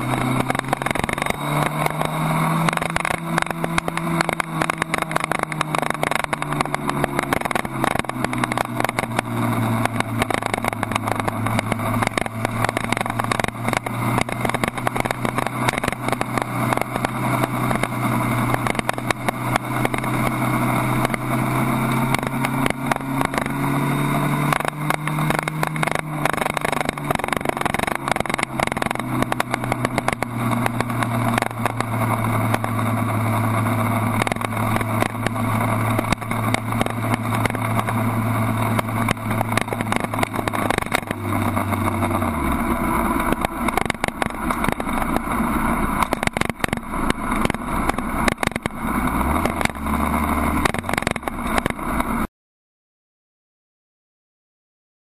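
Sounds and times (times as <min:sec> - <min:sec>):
motorcycle engine running: 0:00.0 - 0:52.3.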